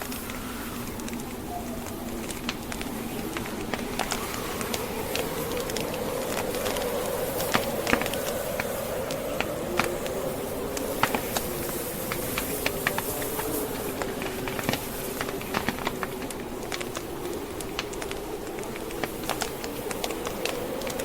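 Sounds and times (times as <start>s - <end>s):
burning logs crackling and popping: 0.0s - 21.0s
howling blizzard wind: 0.0s - 21.0s.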